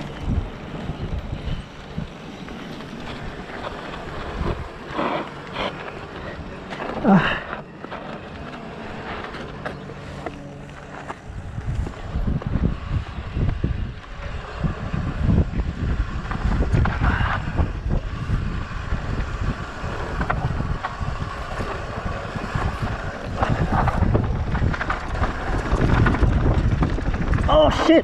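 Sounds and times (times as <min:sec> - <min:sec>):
bike tyres rolling on dirt trail: 0:00.0 - 0:28.0
wind buffeting microphone: 0:00.0 - 0:28.0.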